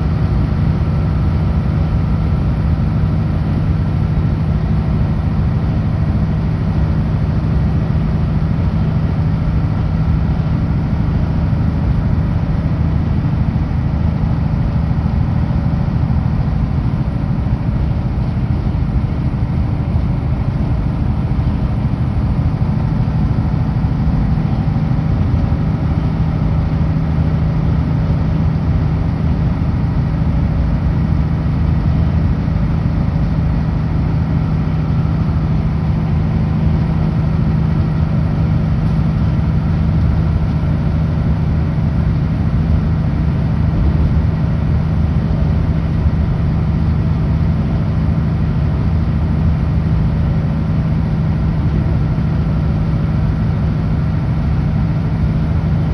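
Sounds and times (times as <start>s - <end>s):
road noise: 0.0s - 55.9s
truck diesel engine droning: 0.0s - 55.9s.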